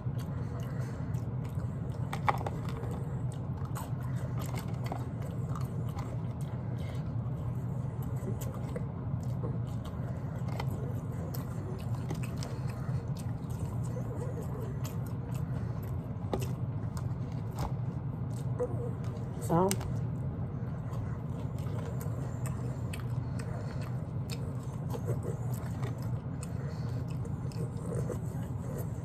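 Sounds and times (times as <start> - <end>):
person chewing meat: 0.0 - 19.4, 20.0 - 29.0
steady low hum: 0.0 - 29.0.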